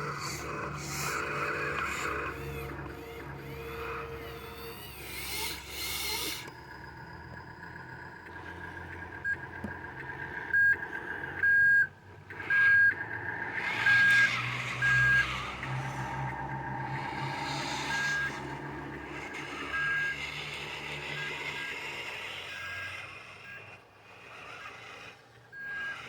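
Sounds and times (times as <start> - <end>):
reversing alarm beeping: 0.0 - 24.6, 25.5 - 26.0
diesel truck engine running: 0.0 - 26.0.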